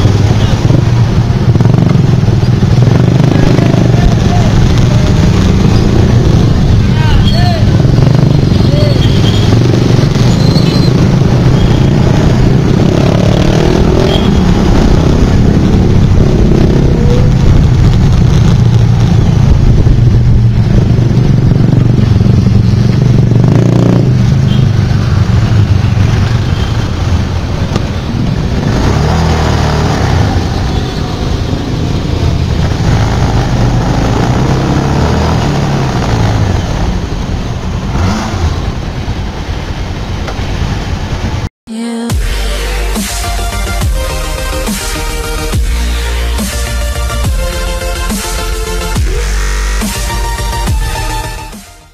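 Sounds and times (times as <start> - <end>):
road traffic: 0.0 - 51.9.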